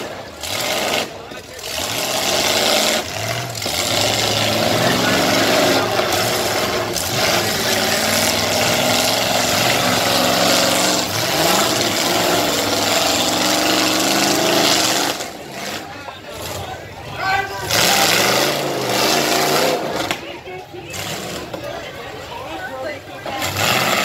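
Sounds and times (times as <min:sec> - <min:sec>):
car and truck engines revving: 0:00.0 - 0:24.0.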